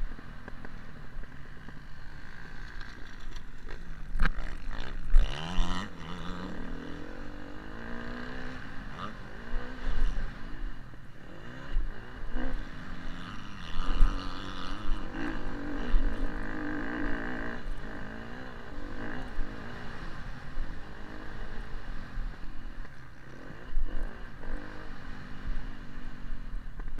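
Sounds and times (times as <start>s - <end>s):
motorbike engine revving: 0.0s - 26.5s.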